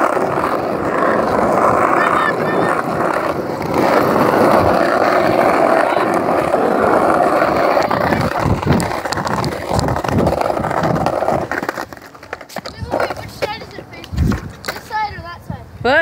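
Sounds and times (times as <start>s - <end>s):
skateboard wheels rolling on asphalt: 0.0s - 15.8s.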